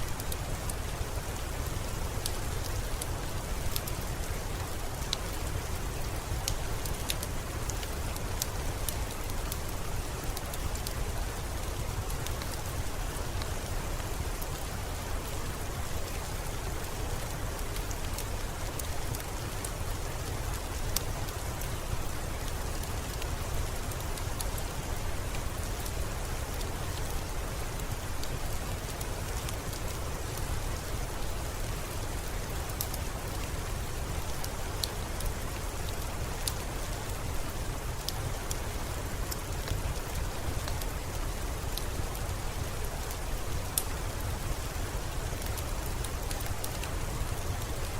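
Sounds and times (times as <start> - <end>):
steady rain falling: 0.0 - 47.9
raindrops ticking: 0.1 - 47.9.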